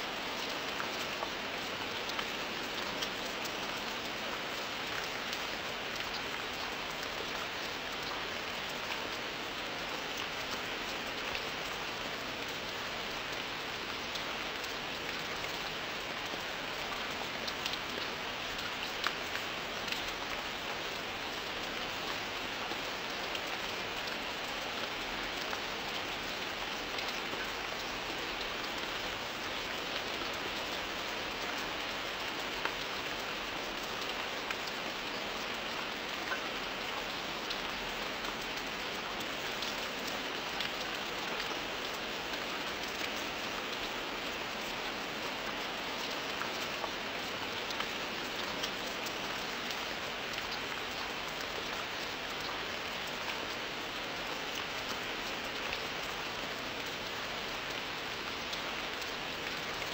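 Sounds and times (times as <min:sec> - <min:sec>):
steady rain hiss: 0:00.0 - 0:59.9
rain drop ticks: 0:00.3 - 0:09.2, 0:13.2 - 0:59.9.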